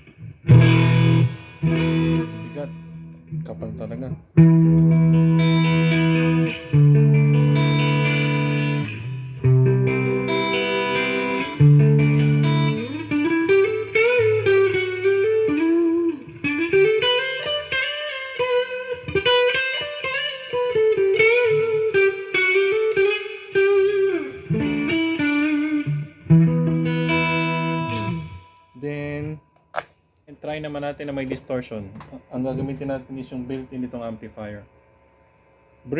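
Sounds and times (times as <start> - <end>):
electric guitar chords and lead: 0.0 - 29.9.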